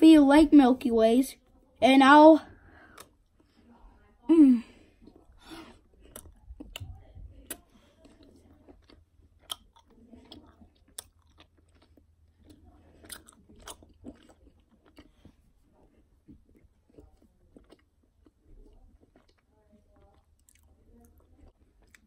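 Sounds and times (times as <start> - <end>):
person chewing chocolate: 2.8 - 3.7, 4.9 - 22.0.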